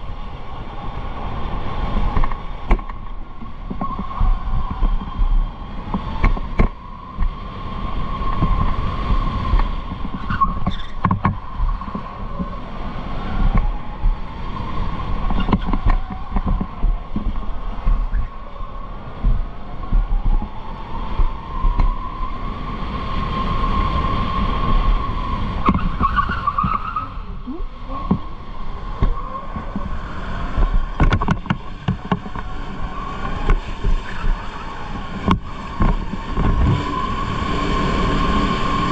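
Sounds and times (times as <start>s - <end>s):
electric go-kart motor whining: 0.2s - 38.9s
low rumble with knocks: 2.0s - 12.6s, 13.3s - 22.3s, 25.6s - 37.0s.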